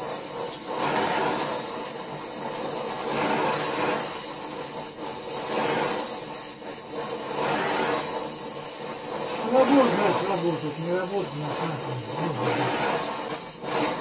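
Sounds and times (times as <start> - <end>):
gas torch flame hissing: 0.0 - 14.0.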